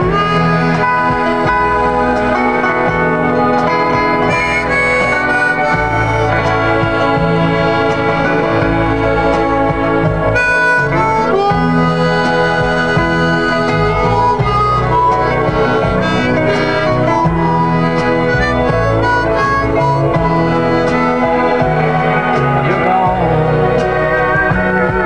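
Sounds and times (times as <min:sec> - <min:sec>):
harmonica melody: 0:00.0 - 0:25.0.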